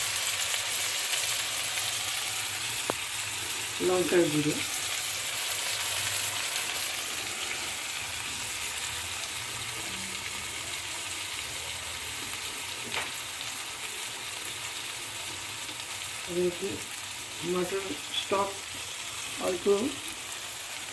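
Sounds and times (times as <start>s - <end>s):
masala sizzling in hot oil: 0.0s - 20.9s.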